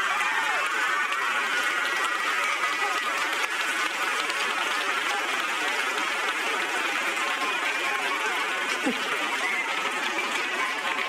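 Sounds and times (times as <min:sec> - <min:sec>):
people clapping: 0:00.0 - 0:11.0
audience laughing: 0:00.8 - 0:11.0.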